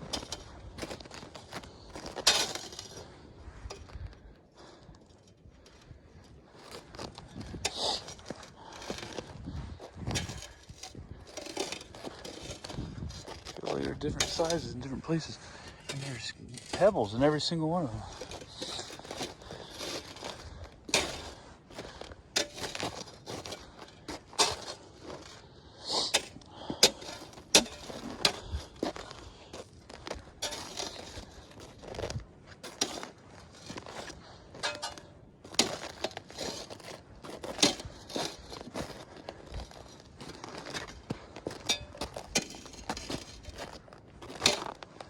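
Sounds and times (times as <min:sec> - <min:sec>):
footsteps crunching on icy snow: 0:06.5 - 0:25.5, 0:26.6 - 0:45.0.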